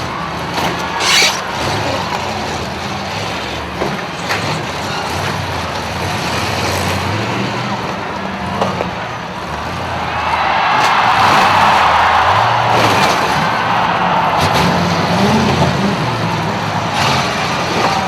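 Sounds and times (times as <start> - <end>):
engines running and revving: 0.0 - 18.0.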